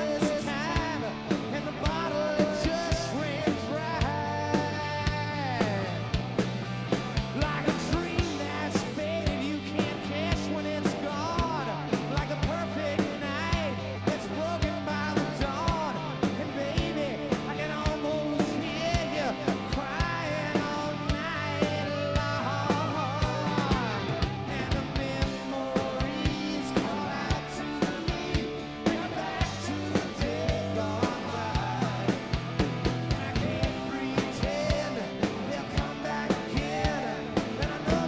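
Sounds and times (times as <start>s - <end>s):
rock band playing: 0.0s - 38.0s.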